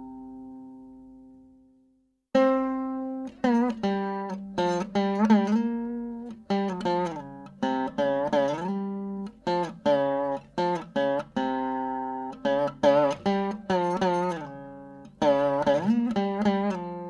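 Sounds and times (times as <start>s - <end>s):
plucked guitar melody: 0.0s - 1.6s, 2.3s - 17.0s.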